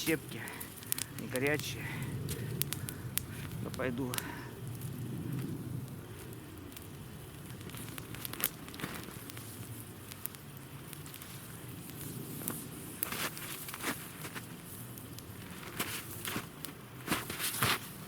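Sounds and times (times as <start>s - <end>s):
campfire crackling and snapping: 0.0s - 18.0s
low steady rustle of fire: 0.0s - 18.0s.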